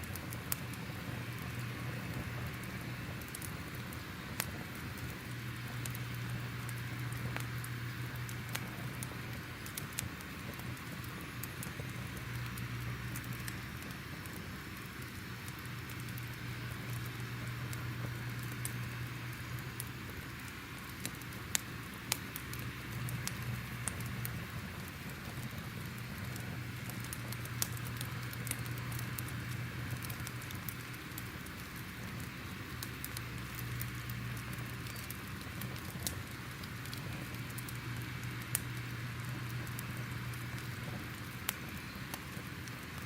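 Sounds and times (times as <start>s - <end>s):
crackling wood fire: 0.0s - 43.0s.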